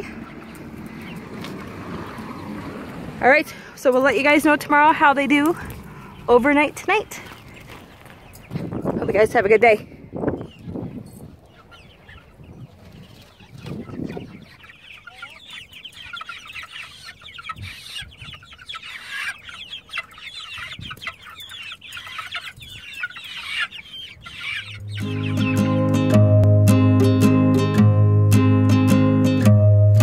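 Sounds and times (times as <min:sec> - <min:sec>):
chicks peeping and cheeping: 0:00.0 - 0:27.8.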